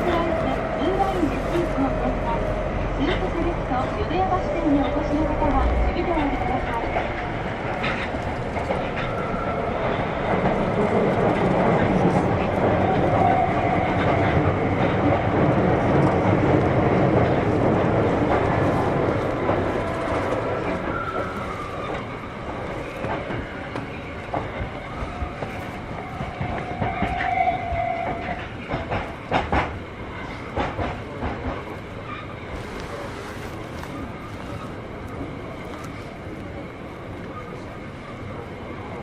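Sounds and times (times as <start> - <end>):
train rolling noise: 0.0 - 39.0.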